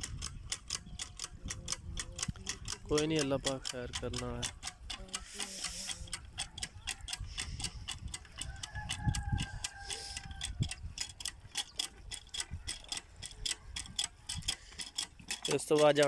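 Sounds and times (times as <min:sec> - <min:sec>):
hand water pump being worked: 0:00.0 - 0:16.0
rapid ticking: 0:00.0 - 0:16.0.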